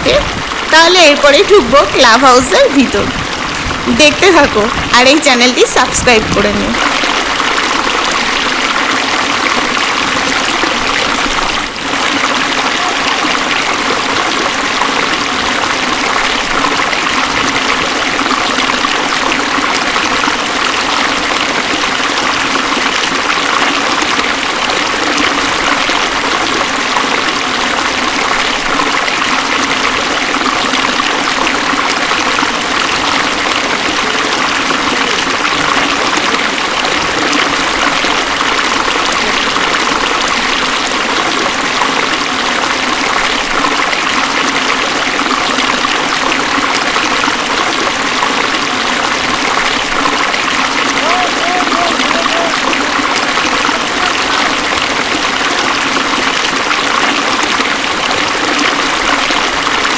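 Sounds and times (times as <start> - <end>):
fast river running: 0.0 - 59.9.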